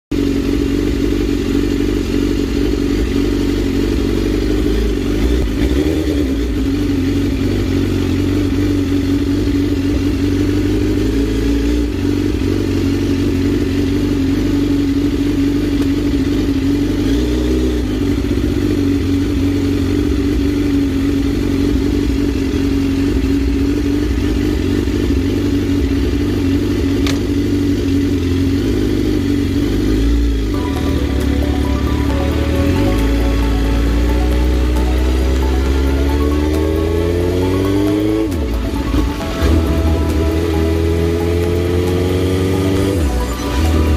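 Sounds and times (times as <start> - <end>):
motorcycle engine idling: 0.1 - 43.9.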